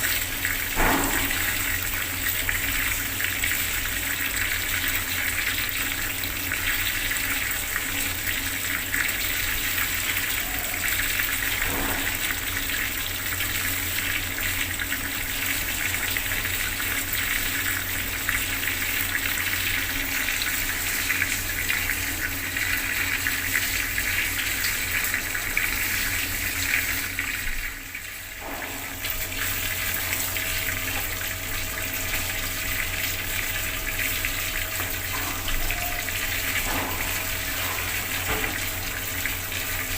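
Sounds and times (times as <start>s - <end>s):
water tap running and splashing: 0.0s - 39.9s.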